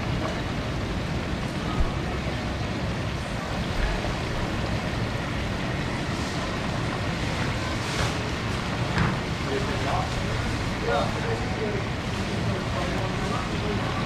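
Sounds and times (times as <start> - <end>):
gas burner roaring: 0.0 - 14.0
hot oil bubbling: 0.0 - 14.0.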